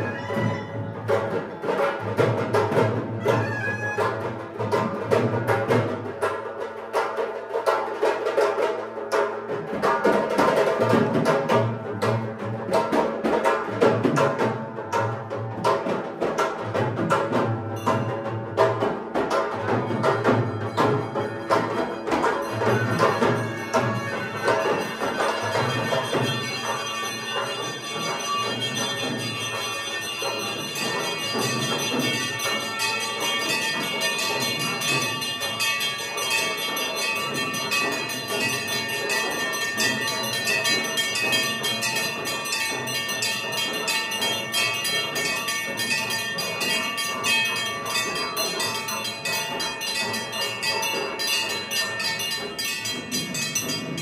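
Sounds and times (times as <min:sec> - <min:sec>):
temple bells ringing rapidly: 0:00.0 - 0:05.6, 0:13.9 - 0:54.0
drum beating: 0:00.0 - 0:54.0.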